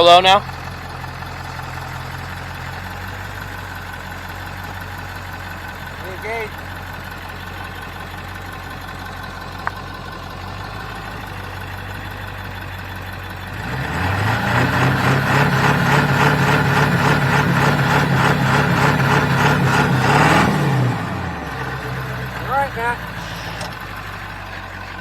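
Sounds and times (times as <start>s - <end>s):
truck engine idling and revving: 0.0s - 25.0s.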